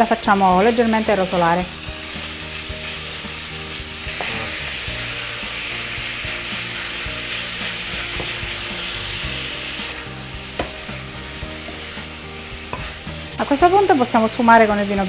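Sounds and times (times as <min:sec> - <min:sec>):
meat sizzling in oil: 0:00.0 - 0:15.0
spatula scraping a pan: 0:01.8 - 0:14.4.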